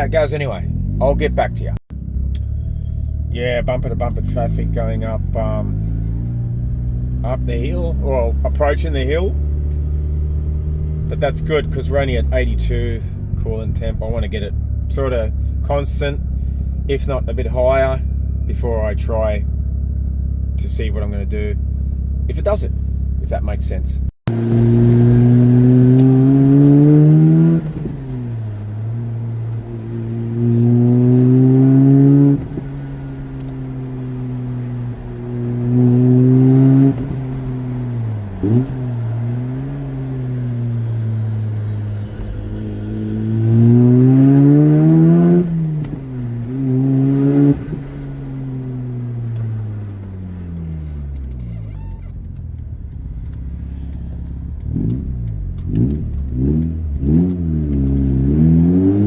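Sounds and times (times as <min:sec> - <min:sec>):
rotary engine accelerating: 0:00.0 - 0:17.1, 0:24.3 - 0:59.0.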